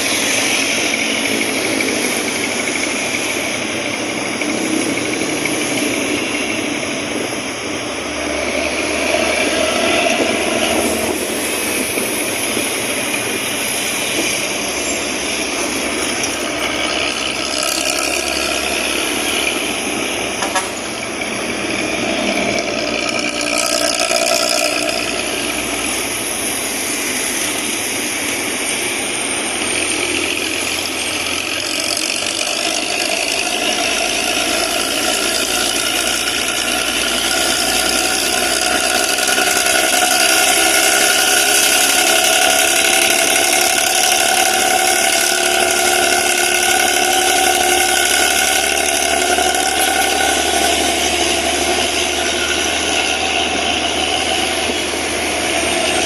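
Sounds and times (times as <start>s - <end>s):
bus engine loud growling exhaust: 0.0s - 56.0s.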